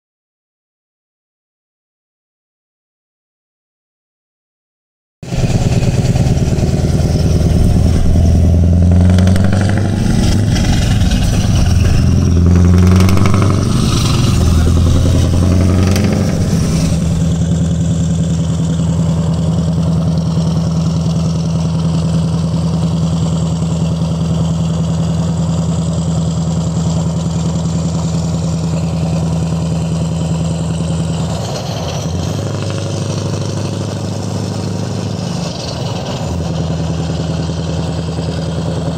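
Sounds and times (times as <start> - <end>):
loud diesel truck engine: 5.2 - 38.9.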